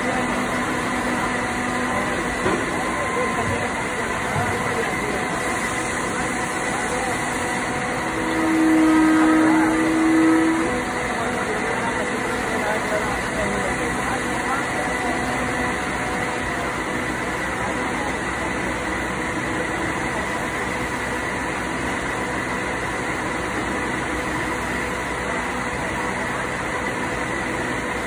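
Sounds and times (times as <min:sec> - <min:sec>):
factory machinery drone: 0:00.0 - 0:28.0.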